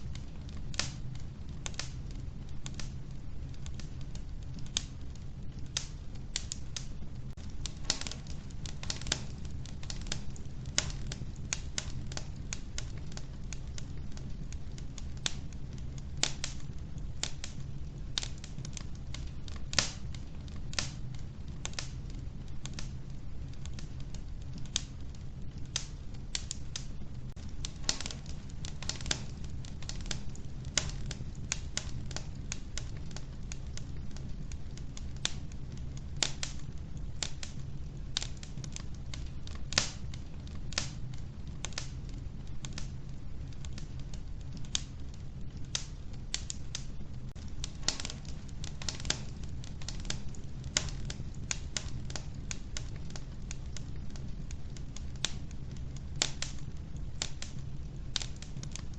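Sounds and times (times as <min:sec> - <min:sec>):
logs crackling and popping: 0:00.0 - 0:58.9
low rumble of flame: 0:00.0 - 0:58.9.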